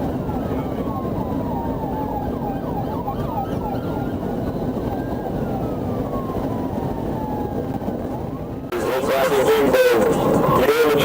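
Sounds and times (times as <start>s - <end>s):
police siren wailing: 0.0s - 11.0s
road and engine noise: 0.0s - 11.0s
siren yelping sweeps: 0.2s - 11.0s.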